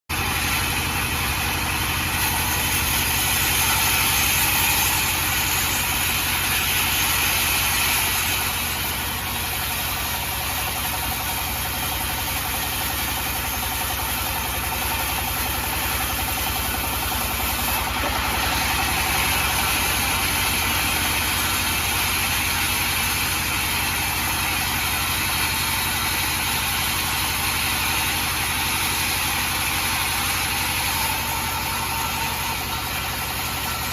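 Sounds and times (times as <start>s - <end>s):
sawmill cutting log: 0.1s - 33.9s.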